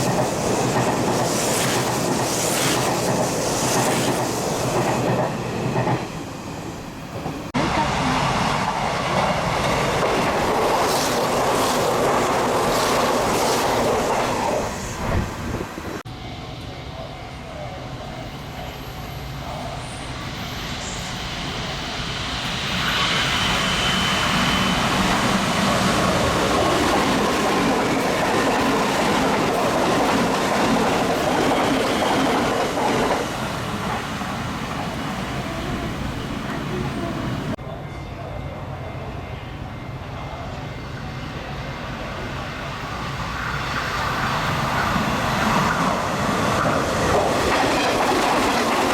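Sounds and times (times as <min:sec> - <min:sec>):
electric train passing: 0:00.0 - 0:48.9.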